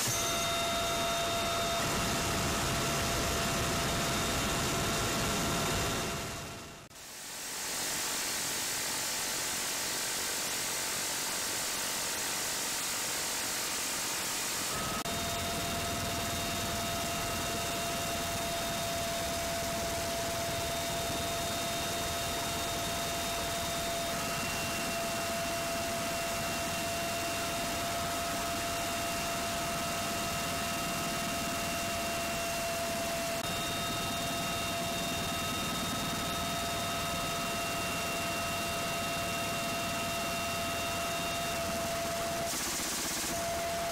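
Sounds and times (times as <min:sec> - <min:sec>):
helicopter rotor: 0:00.0 - 0:06.9, 0:09.9 - 0:43.9
steady high whine: 0:00.0 - 0:06.9, 0:14.5 - 0:43.9
helicopter turbine engine: 0:00.0 - 0:43.9.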